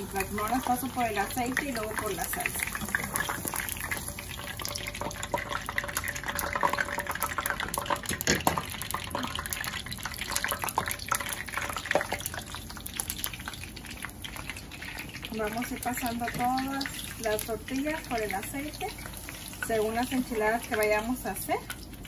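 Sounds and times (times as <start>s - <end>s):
tortillas sizzling in hot oil: 0.0s - 22.0s.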